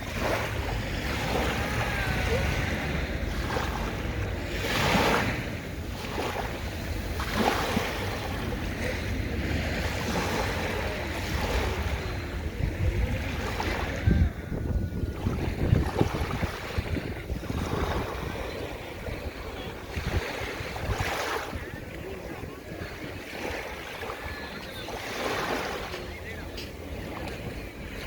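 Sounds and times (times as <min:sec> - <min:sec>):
waves washing onto sand: 0:00.0 - 0:28.0
wind rumbling on microphone: 0:00.0 - 0:28.0.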